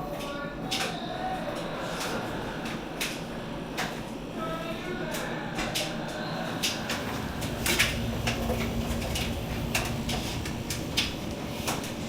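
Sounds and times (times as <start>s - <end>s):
washing machine rumble: 0.0s - 12.0s
faint hum: 0.4s - 12.0s.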